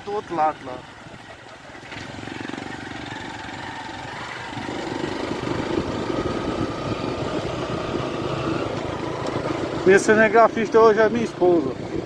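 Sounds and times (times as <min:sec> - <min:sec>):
small motorcycle engine: 0:00.1 - 0:12.0.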